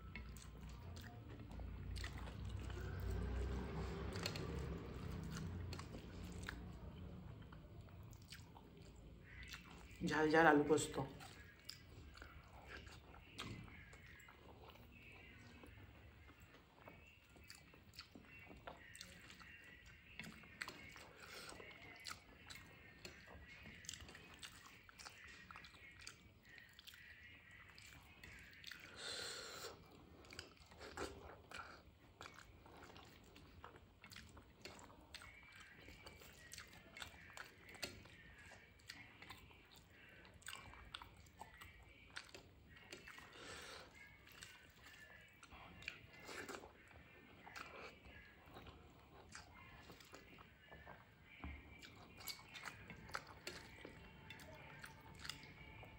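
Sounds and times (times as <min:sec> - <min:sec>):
chewing with wet mouth clicks: 0:00.0 - 0:10.2, 0:10.8 - 0:55.9.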